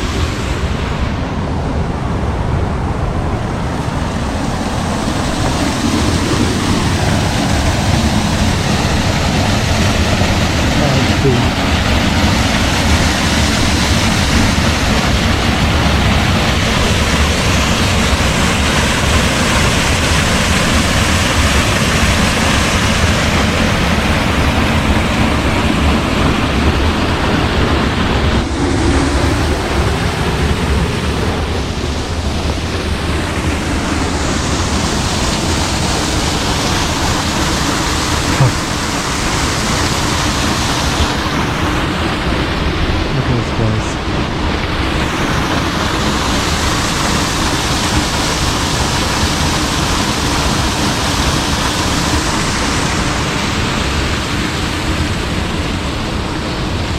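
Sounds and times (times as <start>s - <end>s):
water rushing: 0.0s - 56.9s
wind rumble on microphone: 0.0s - 56.9s.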